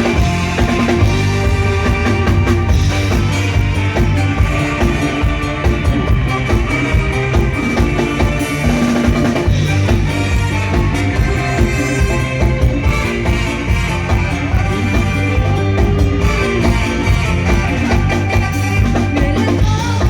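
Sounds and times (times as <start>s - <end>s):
drum kit beat: 0.0s - 20.0s.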